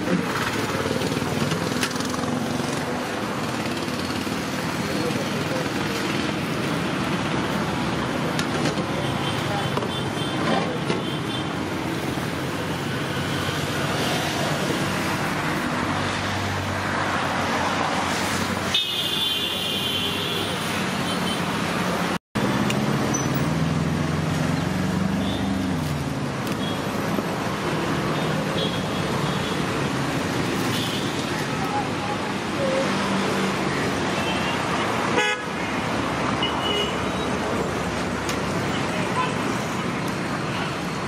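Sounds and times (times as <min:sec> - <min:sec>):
roadside traffic: 0:00.0 - 0:41.0.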